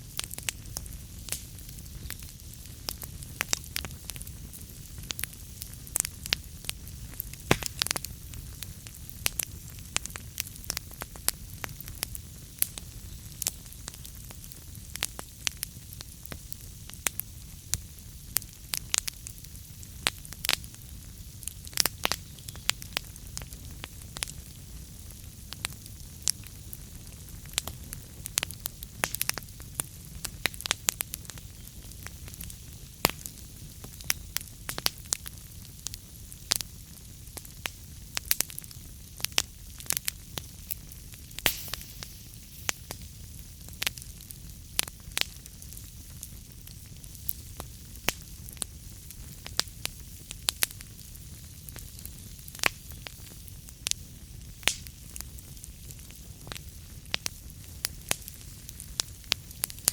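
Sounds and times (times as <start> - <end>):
fire crackles and pops: 0.0 - 59.9
wood fire rumble and hiss: 0.0 - 59.9.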